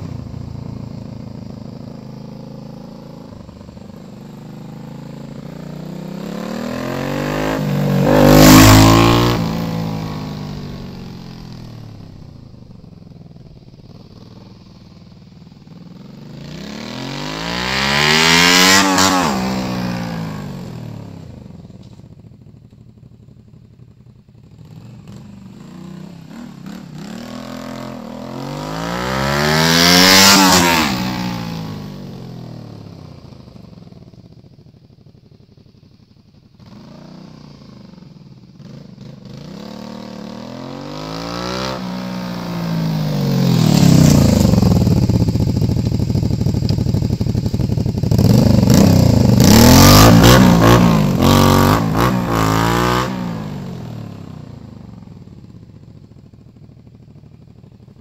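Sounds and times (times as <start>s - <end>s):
motorcycle revving past: 0.0s - 14.7s, 15.7s - 21.7s, 24.6s - 34.0s, 36.6s - 55.4s.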